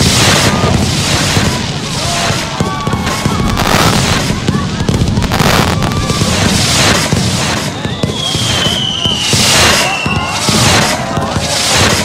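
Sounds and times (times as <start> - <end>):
fireworks barrage: 0.0 - 12.0.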